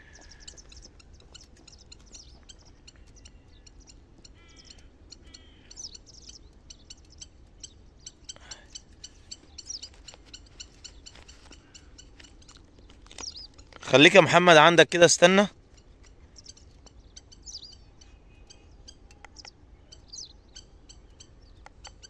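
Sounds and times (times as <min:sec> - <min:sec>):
harsh bird calls: 0:00.0 - 0:22.0
small birds chirping: 0:00.0 - 0:22.0.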